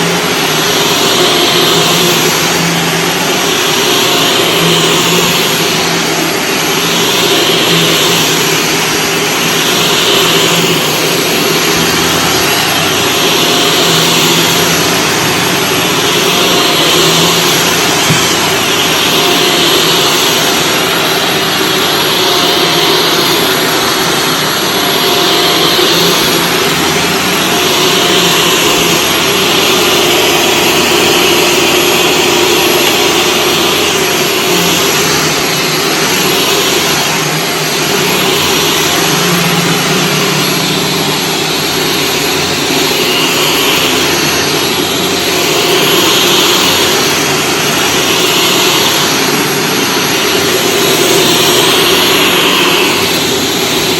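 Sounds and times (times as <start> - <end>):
vacuum cleaner on carpet: 0.0 - 53.9.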